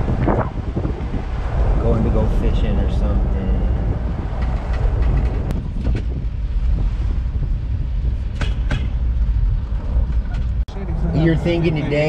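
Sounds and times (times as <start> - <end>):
engine and road rumble: 0.0 - 12.0
wind noise: 0.0 - 12.0.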